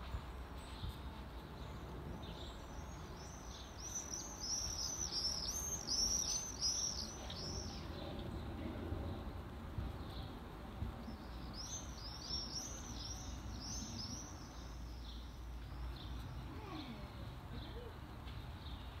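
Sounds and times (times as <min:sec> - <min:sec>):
faint background noise: 0:00.0 - 0:19.0
songbird singing: 0:00.0 - 0:19.0.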